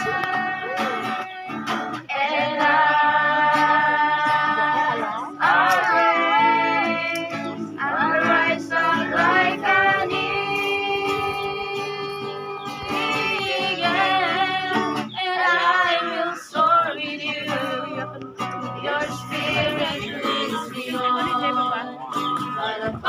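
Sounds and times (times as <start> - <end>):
group of voices singing: 0.0 - 23.0
strummed acoustic guitar: 0.0 - 23.0.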